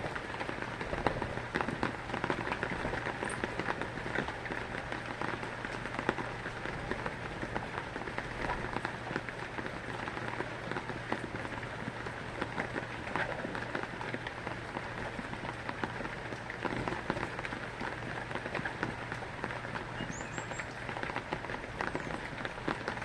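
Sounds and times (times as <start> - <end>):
heavy rain falling: 0.0 - 23.0
raindrops ticking on surface: 0.0 - 23.0.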